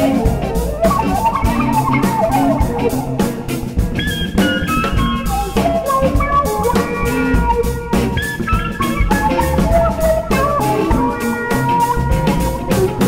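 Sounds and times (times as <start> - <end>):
drum kit keeping time: 0.0 - 13.0
jazz band playing: 0.0 - 13.0.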